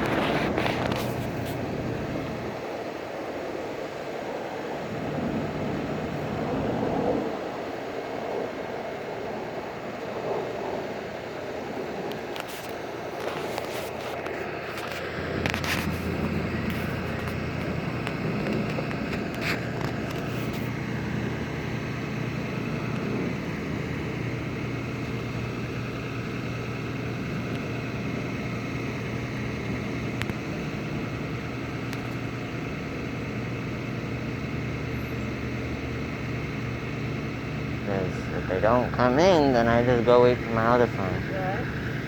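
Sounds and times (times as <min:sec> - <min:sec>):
low motor hum: 0:00.0 - 0:42.0.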